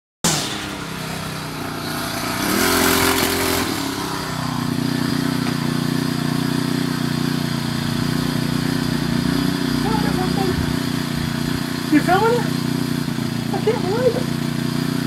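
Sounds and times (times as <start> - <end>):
string trimmer engine running: 0.3 - 15.0.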